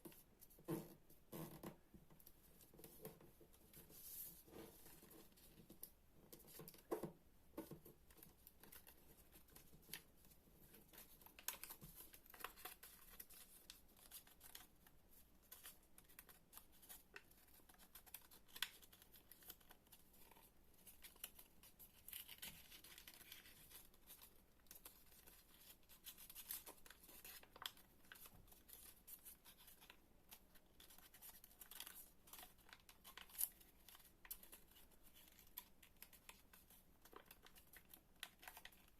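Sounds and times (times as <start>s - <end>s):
paper folding and crinkling: 2.2s - 38.9s.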